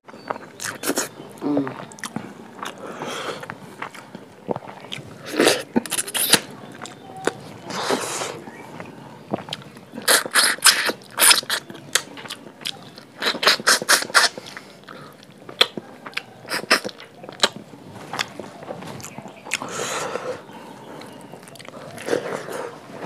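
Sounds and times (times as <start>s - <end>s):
chewing crunches: 0.1s - 23.0s.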